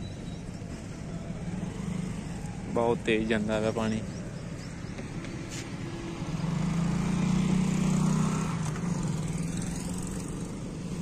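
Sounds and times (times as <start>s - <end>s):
passing vehicle engine hum: 0.0s - 11.0s.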